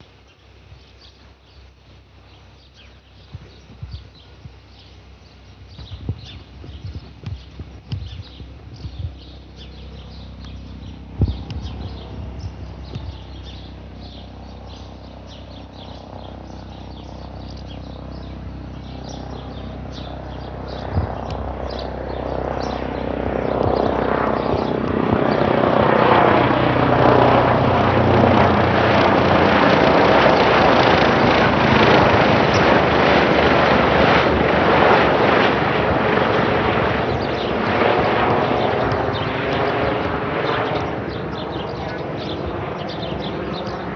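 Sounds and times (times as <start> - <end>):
helicopter passing overhead: 2.2 - 43.9.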